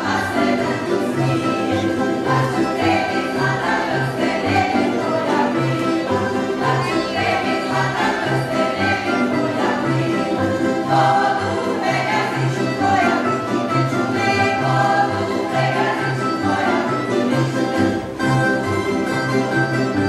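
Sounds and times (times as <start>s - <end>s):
group singing: 0.0s - 17.2s
folk dance instrumental music: 0.0s - 20.0s.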